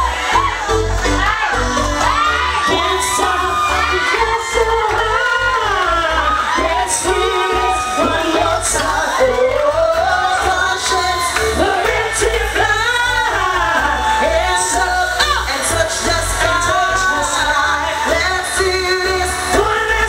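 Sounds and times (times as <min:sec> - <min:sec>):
amplified music with bass beat: 0:00.0 - 0:20.0
woman singing into microphone: 0:00.4 - 0:20.0.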